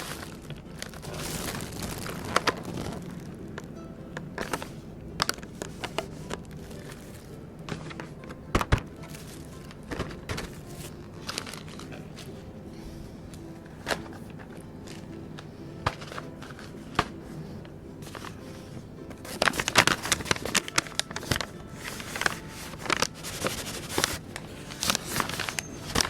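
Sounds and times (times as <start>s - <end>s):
plastic packaging crinkling: 0.0s - 3.8s, 4.4s - 12.4s, 13.3s - 26.0s
soft background music: 0.0s - 26.0s.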